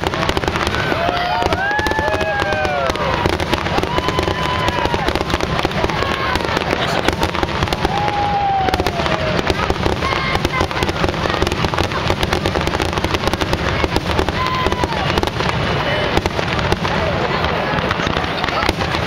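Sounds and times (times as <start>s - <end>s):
fireworks crackling: 0.0s - 19.0s
fireworks whistling: 0.0s - 19.0s.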